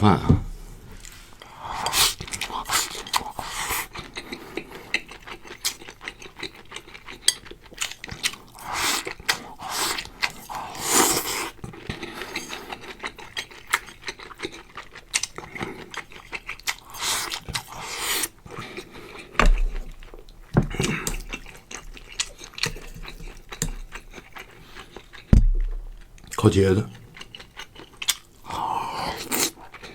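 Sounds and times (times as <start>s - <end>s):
chewing with mouth noises: 1.0s - 29.9s.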